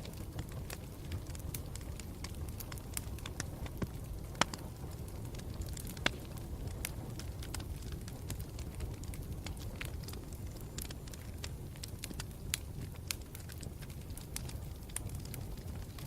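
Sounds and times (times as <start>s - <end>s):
campfire rumble: 0.0s - 16.0s
fire crackles and pops: 0.0s - 16.0s.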